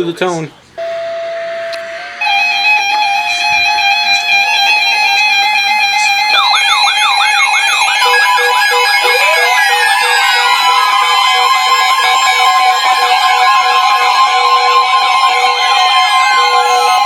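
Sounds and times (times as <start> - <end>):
weather radio alert alarms: 0.7 - 17.0
fast warbling siren tone: 0.8 - 17.0
pulsed beeps: 0.8 - 17.0.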